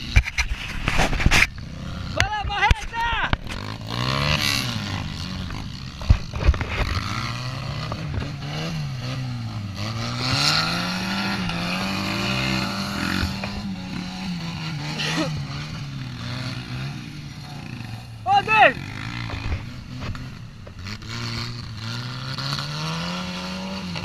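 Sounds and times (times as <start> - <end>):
buggy engine revving: 0.0 - 24.0.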